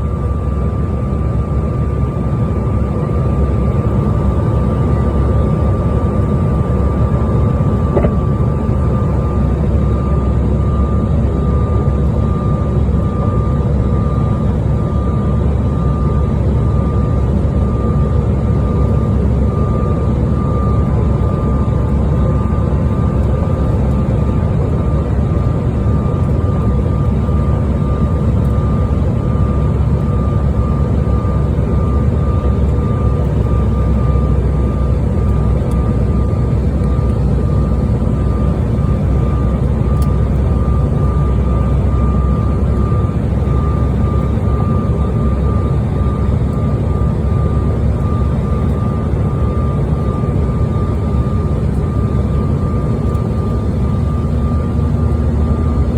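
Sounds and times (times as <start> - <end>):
airliner cabin low rumble: 0.0 - 55.9
thin steady whine: 0.0 - 55.9.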